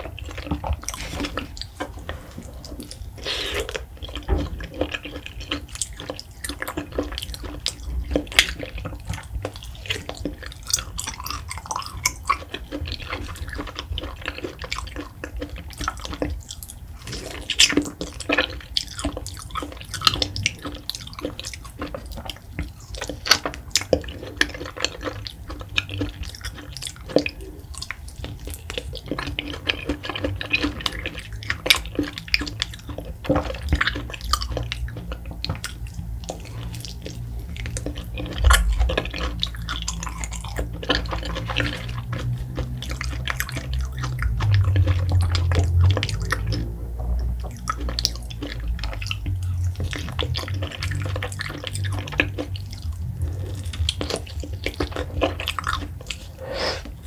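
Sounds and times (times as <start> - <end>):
person biting and chewing mango: 0.0 - 57.0.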